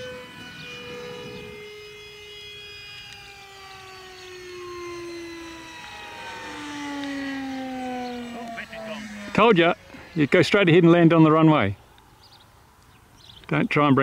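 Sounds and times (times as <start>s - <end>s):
electric ducted fan whining: 0.0s - 13.2s.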